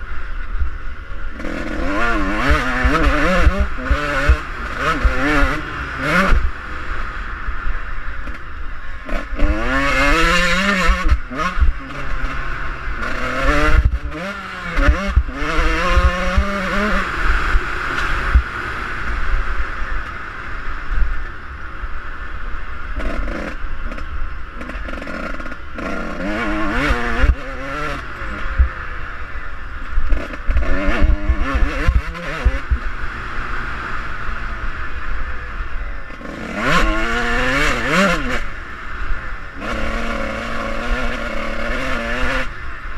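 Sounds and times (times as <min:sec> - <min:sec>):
dirt bike engine revving: 0:01.1 - 0:21.1, 0:22.8 - 0:42.9.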